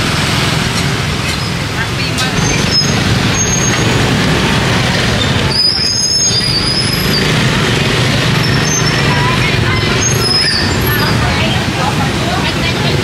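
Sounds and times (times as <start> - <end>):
passing vehicles rumbling: 0.0 - 13.0
voices in background: 1.4 - 13.0.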